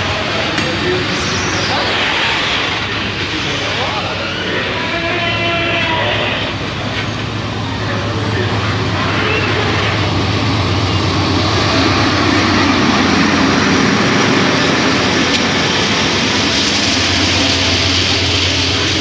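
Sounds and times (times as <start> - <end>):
diesel locomotive engine droning: 0.0 - 19.0.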